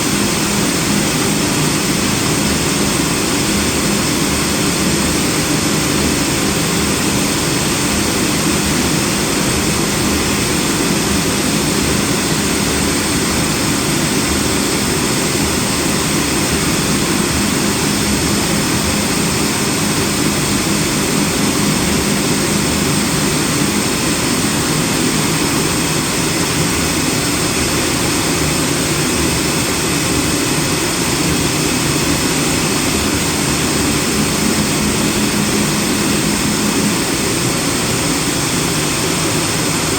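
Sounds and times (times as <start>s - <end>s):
cutting machine drone: 0.0s - 39.9s.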